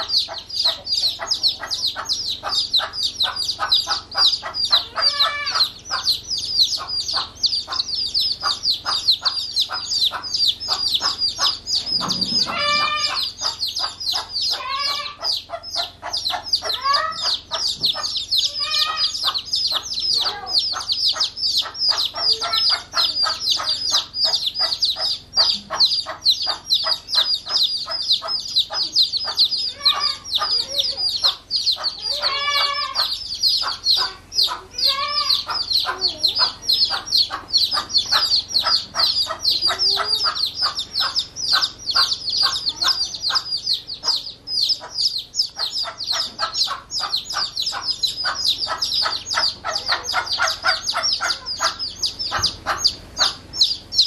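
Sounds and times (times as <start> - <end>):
chicks peeping: 0.0 - 54.0
hen clucking: 0.0 - 54.0.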